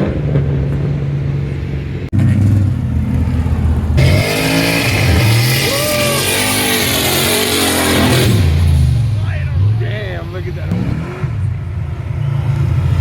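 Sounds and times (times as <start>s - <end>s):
car engine running: 0.3s - 13.0s.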